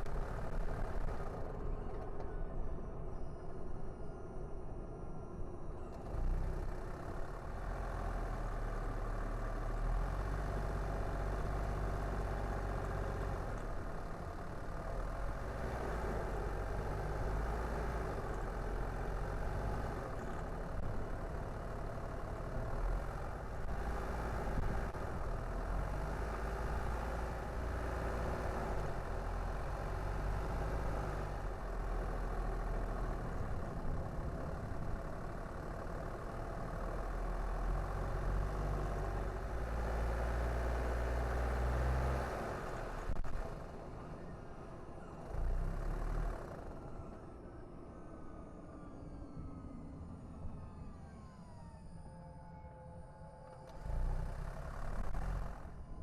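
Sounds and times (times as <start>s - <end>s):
car engine rumble: 0.0s - 56.0s
road and tyre noise: 0.0s - 56.0s.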